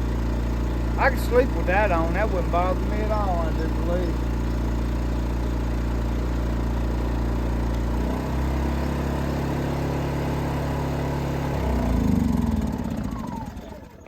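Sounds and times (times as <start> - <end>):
generator engine humming: 0.0 - 14.0.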